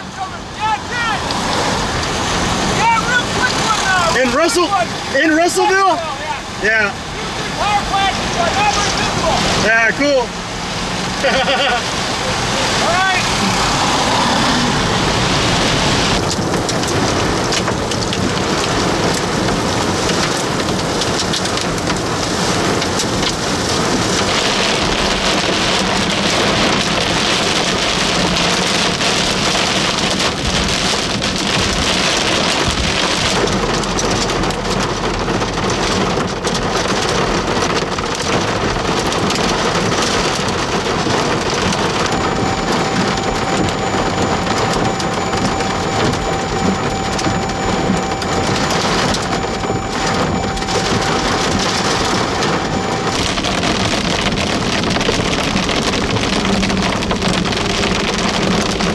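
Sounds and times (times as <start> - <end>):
heavy rain on car windshield: 0.0 - 58.9.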